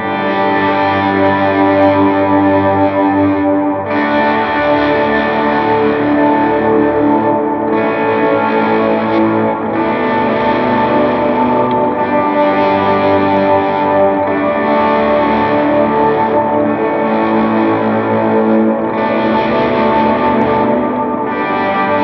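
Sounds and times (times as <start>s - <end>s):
distorted slide electric guitar: 0.0s - 22.0s.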